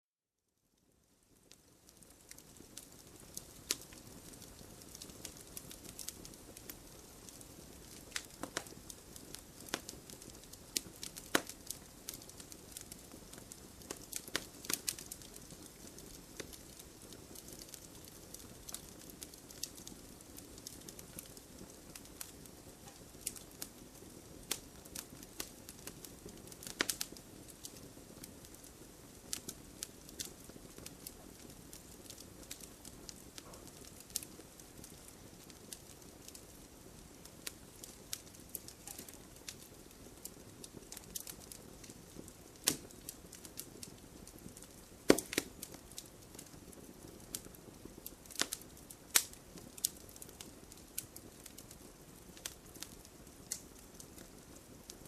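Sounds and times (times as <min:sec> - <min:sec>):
campfire crackling and popping: 0:00.8 - 0:55.0.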